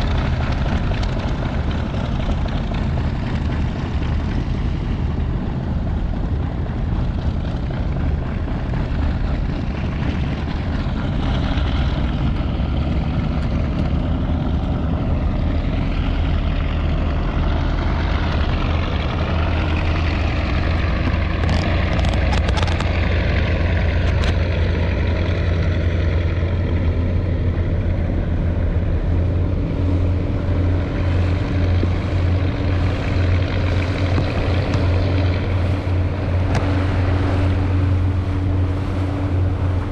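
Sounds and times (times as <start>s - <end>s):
deep propeller engine drone: 0.0s - 39.9s.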